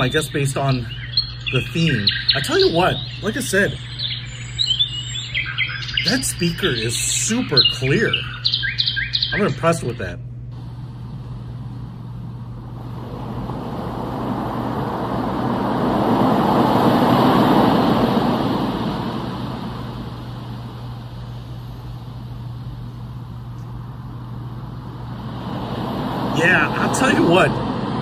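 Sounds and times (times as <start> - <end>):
steady low hum: 0.0 - 28.0
white noise machine rushing: 0.0 - 28.0.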